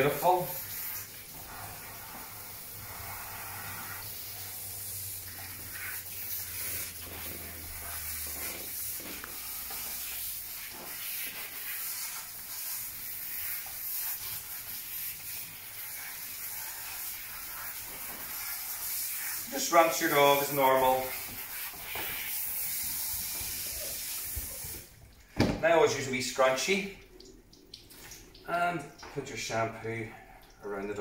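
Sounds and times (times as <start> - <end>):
shower hose water hissing: 0.0 - 31.0.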